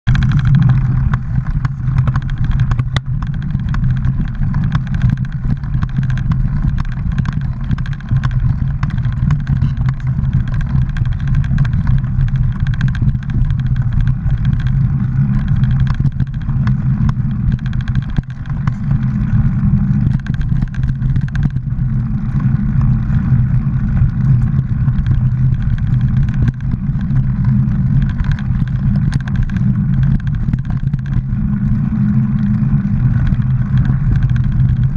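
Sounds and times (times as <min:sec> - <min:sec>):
bike rattles and clicks: 0:00.0 - 0:34.9
bike riding hum: 0:00.0 - 0:34.9.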